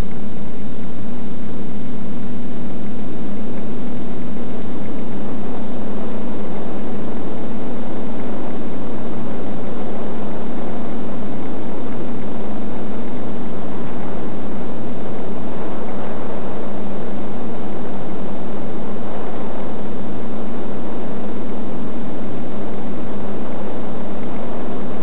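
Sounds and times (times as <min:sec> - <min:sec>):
quadcopter motors humming: 0:00.0 - 0:25.0.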